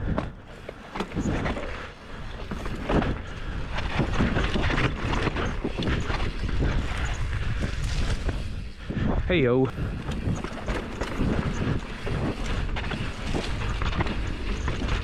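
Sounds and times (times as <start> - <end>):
bike rattling and knocking: 0.1 - 9.1, 9.8 - 15.0
tyres rumbling over dirt and rock: 0.2 - 8.4, 9.8 - 15.0
wind buffeting microphone: 1.1 - 15.0.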